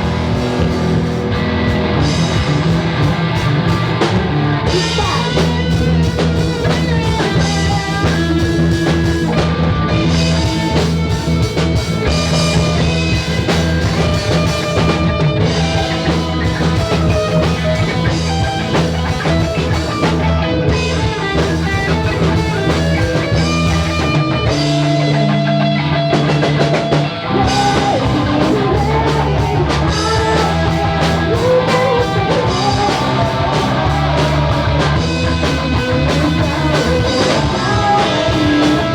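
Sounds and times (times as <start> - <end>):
rock music: 0.0 - 38.9.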